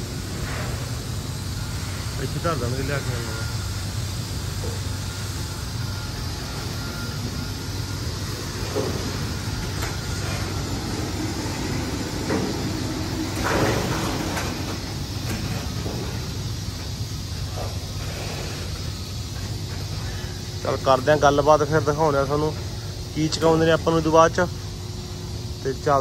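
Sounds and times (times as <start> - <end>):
crane machinery humming: 0.0 - 26.0.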